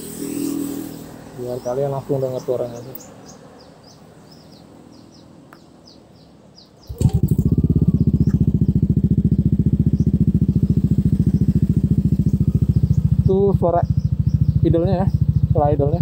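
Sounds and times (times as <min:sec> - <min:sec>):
scooter engine idling: 0:00.0 - 0:16.0
bird chirping: 0:00.2 - 0:16.0.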